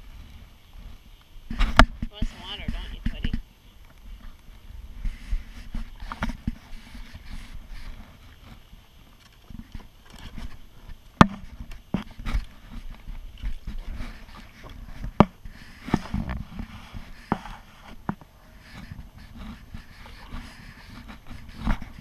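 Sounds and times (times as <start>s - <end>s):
low rumble of water: 0.0s - 22.0s.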